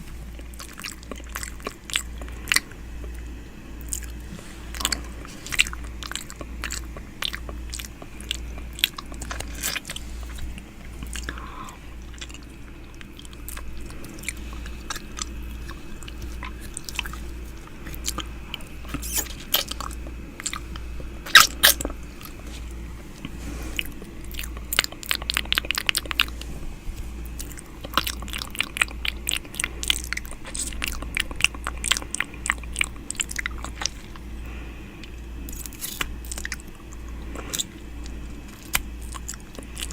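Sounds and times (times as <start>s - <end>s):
low pulsing hum: 0.0s - 39.9s.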